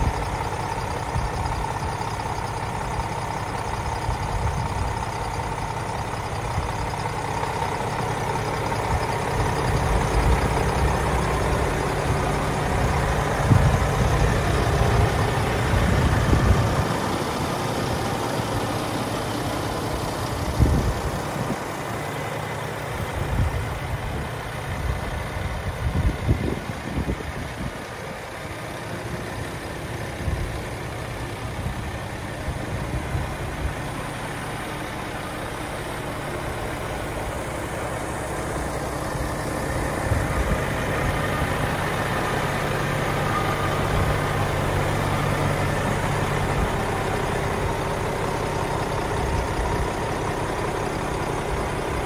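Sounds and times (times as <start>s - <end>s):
truck diesel engine idling: 0.0s - 52.0s.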